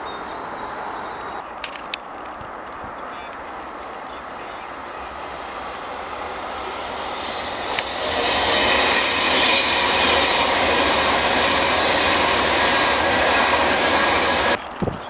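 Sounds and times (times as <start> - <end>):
electric train passing at speed: 0.0 - 14.7.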